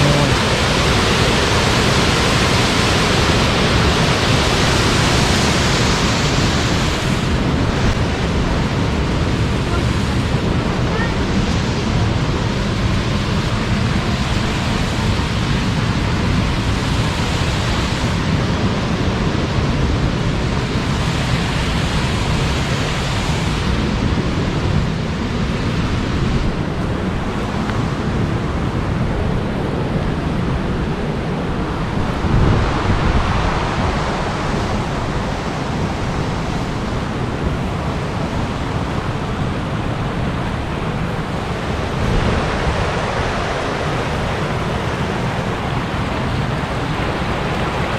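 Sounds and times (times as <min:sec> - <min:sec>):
waterfall roaring: 0:00.0 - 0:47.9
wind buffeting microphone: 0:00.0 - 0:47.9.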